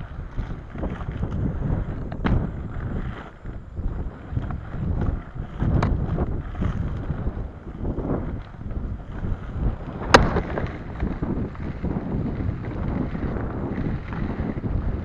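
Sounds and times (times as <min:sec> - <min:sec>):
skate wheels rumbling on dirt: 0:00.0 - 0:15.0
wind buffeting microphone: 0:00.0 - 0:15.0.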